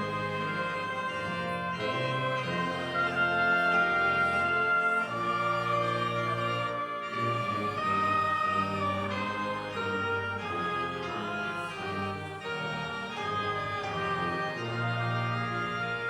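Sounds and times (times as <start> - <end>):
organ playing a hymn: 0.0 - 16.0.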